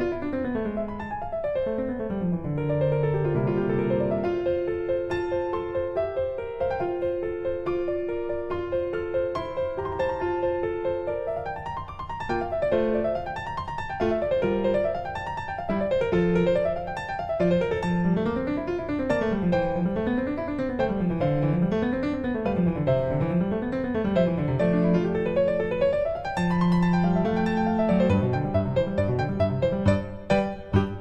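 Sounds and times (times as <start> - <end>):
piano arpeggios: 0.0 - 31.0.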